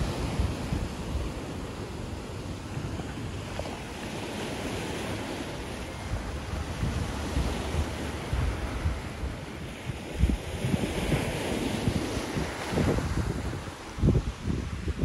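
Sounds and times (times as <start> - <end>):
sea waves washing in: 0.0 - 15.0
wind buffeting microphone: 0.0 - 15.0.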